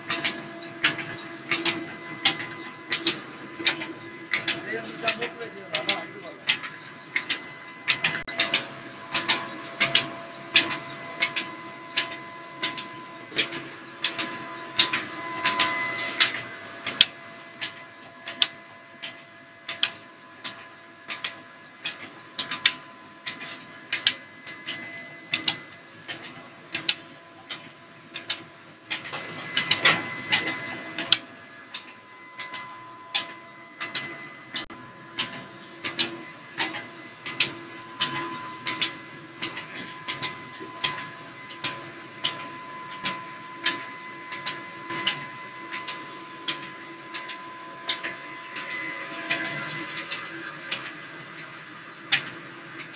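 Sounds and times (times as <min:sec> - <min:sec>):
machine whine: 0:00.0 - 0:52.9.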